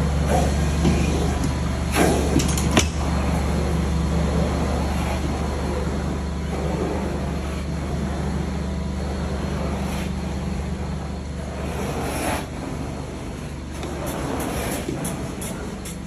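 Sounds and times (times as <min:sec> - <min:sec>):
extraction machine humming: 0:00.0 - 0:16.0
suction air and water rushing: 0:00.0 - 0:16.0.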